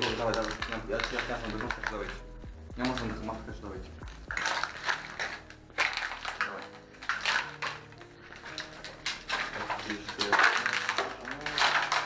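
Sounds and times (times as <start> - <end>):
faint background music: 0.0 - 12.0.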